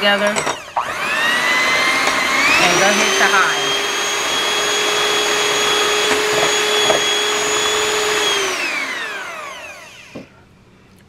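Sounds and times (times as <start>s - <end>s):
electric hand mixer whining: 0.0s - 10.3s.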